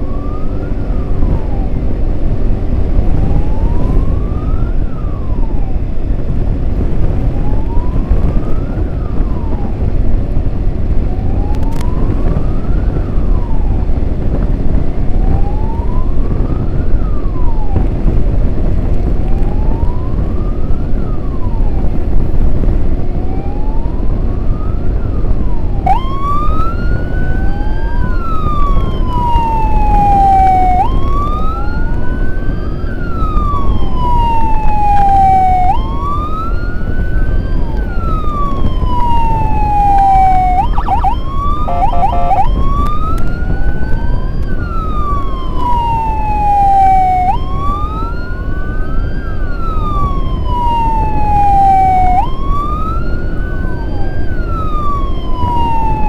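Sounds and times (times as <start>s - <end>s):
emergency siren wailing: 0.0s - 56.0s
rumble of wind and engine: 0.0s - 56.0s.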